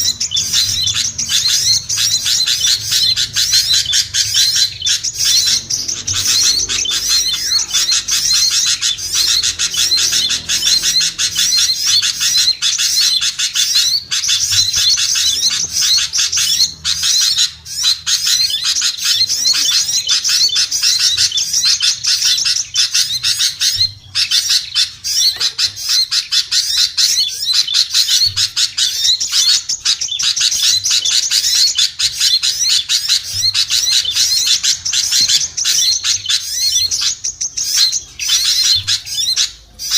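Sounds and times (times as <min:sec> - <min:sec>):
songbirds chattering and chirping: 0:00.0 - 0:39.9.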